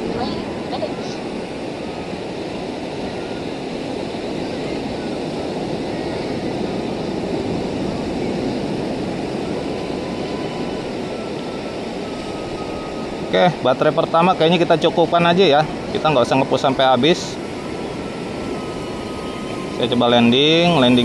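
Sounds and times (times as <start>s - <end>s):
drone motors whining: 0.0s - 21.0s
sea wind: 0.0s - 21.0s
surf rushing: 0.0s - 21.0s.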